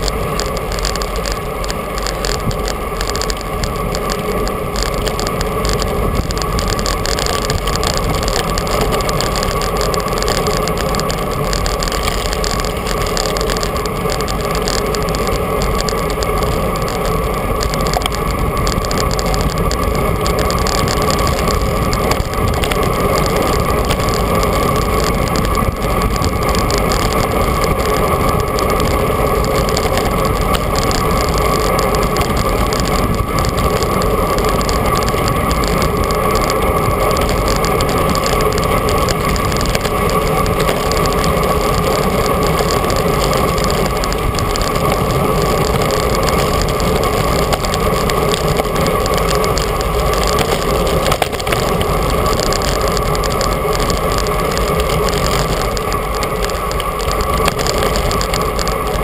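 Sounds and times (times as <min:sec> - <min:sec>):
bicycle tyre noise: 0:00.0 - 0:59.0.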